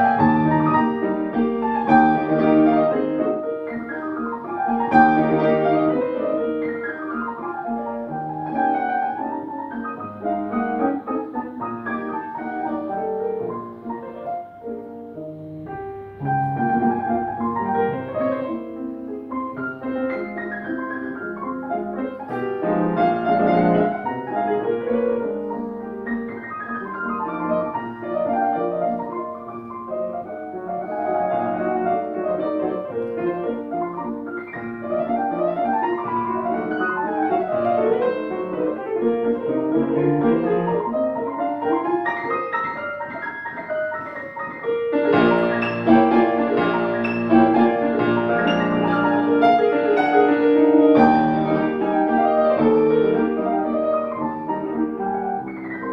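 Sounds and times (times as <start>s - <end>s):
classical solo piano: 0.0s - 55.9s.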